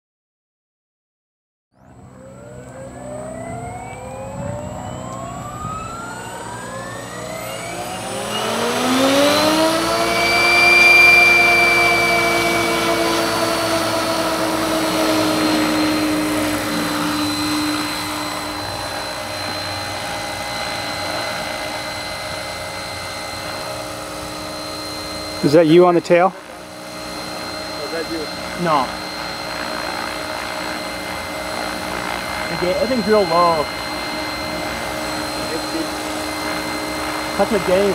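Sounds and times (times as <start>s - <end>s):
rc helicopter rotor whine: 1.7s - 37.9s.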